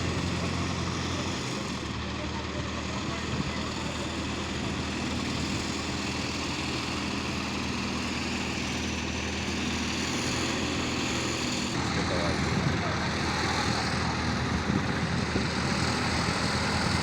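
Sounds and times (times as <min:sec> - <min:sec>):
crane diesel engine running: 0:00.0 - 0:17.0.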